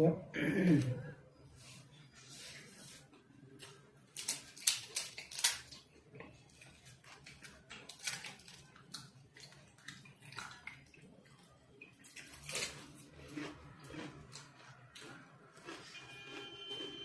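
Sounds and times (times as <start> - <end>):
eating crackles and crunches: 2.9 - 17.0.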